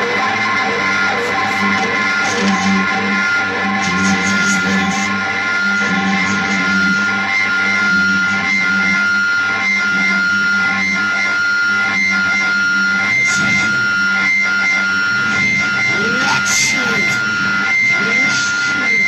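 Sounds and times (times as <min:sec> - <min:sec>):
droning noise music: 0:00.0 - 0:19.0.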